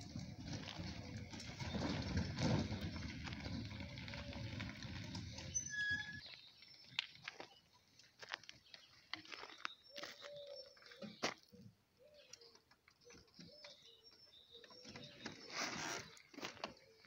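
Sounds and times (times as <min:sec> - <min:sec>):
gravel crunching: 0:00.0 - 0:17.0.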